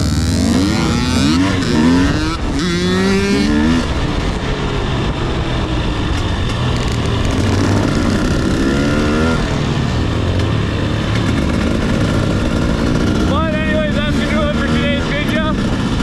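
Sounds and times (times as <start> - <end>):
loud steady rush of noise: 0.0 - 16.0
two-stroke dirt bike engine: 0.0 - 16.0.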